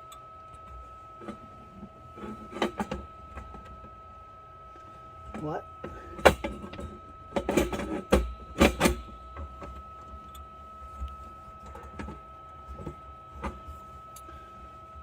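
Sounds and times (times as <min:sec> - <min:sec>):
steady high whine: 0:00.0 - 0:15.0.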